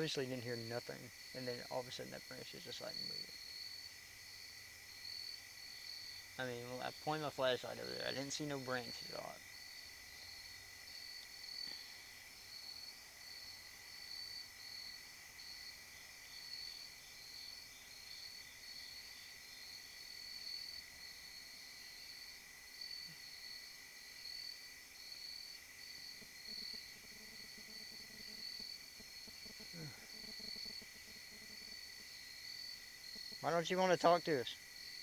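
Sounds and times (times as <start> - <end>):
crickets trilling: 0.0 - 35.0
higher pulsing cricket trill: 0.0 - 35.0.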